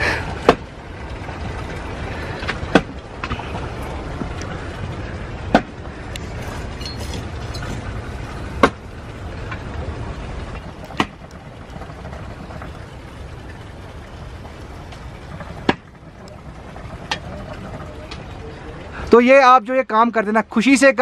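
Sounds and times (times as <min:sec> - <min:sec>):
sharp fire cracks: 0:00.0 - 0:19.1
wood fire rumbling: 0:00.0 - 0:21.0.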